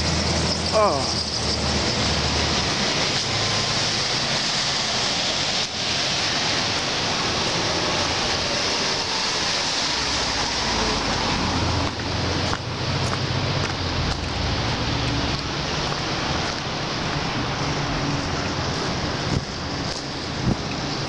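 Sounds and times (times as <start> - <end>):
tyres swishing on wet road: 0.0 - 21.0.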